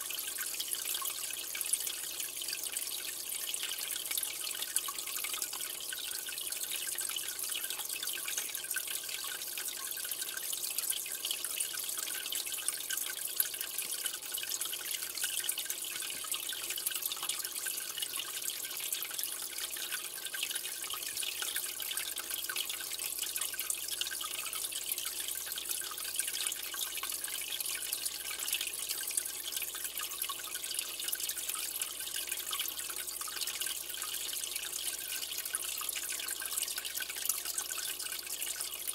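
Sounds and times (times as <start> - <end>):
aquarium water trickling: 0.0 - 38.9.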